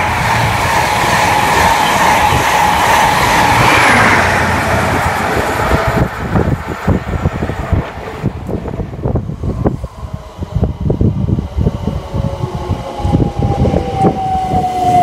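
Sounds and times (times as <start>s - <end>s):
train wheels rushing on rails: 0.0s - 15.0s
wind buffeting microphone: 0.0s - 15.0s.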